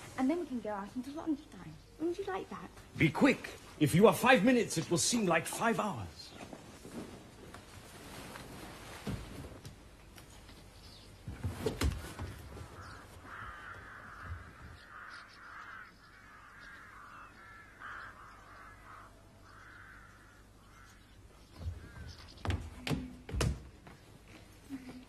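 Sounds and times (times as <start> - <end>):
birds calling: 0.0 - 6.7, 9.9 - 25.0.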